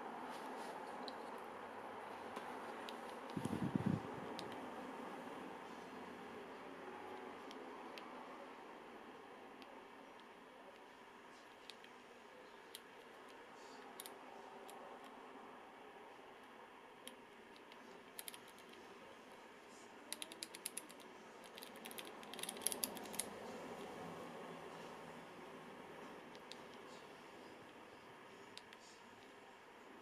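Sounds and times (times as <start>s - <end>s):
steady low hiss: 0.0s - 30.0s.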